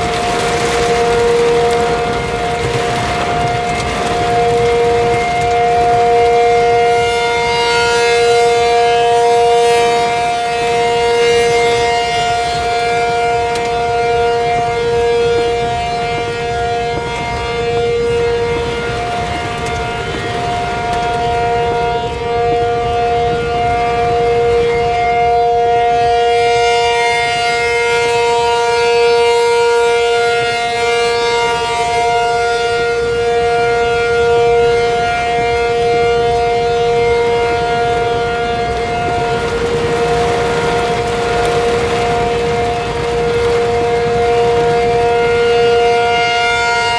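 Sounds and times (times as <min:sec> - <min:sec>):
outdoor warning siren chord: 0:00.0 - 0:46.9.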